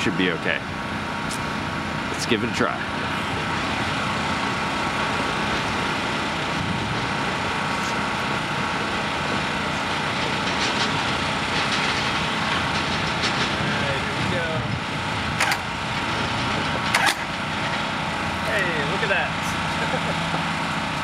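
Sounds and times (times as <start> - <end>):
starter motor cranking engine: 1.2 - 20.2.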